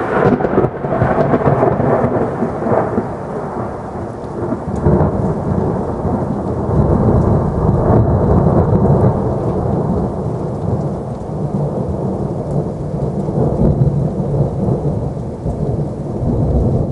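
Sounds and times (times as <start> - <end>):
rolling thunder: 0.0 - 16.9
steady rain: 0.0 - 16.9.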